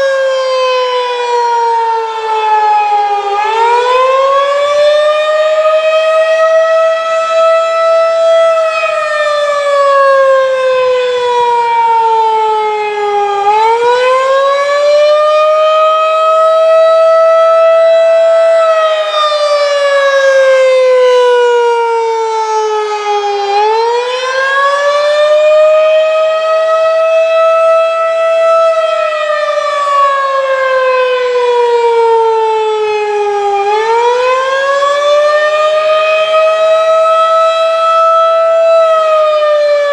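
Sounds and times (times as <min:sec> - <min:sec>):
wailing warning siren: 0:00.0 - 0:39.9.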